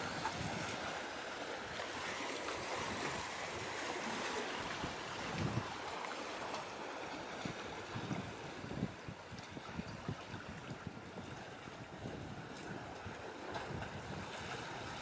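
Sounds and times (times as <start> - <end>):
wind buffeting microphone: 0.0 - 1.1, 1.7 - 15.0
wind and sea hiss: 0.0 - 15.0.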